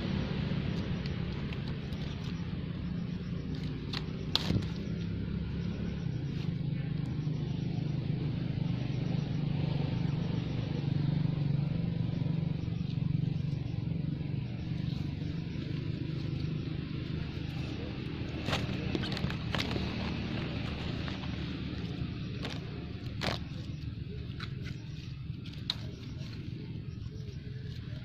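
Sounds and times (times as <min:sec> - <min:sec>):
low motor hum: 0:00.0 - 0:28.0.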